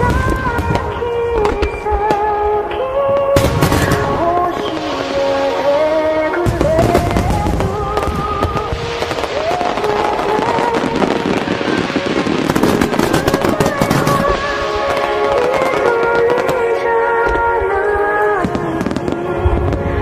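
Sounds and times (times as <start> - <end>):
background music: 0.0 - 20.0
fireworks bursting and crackling: 0.0 - 20.0.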